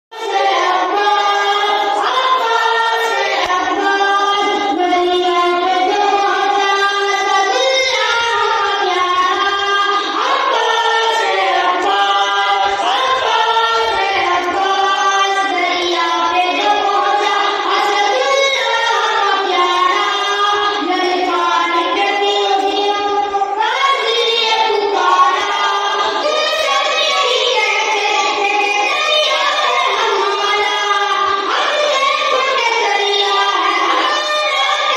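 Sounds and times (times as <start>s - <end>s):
boy singing a chant: 0.1s - 34.9s.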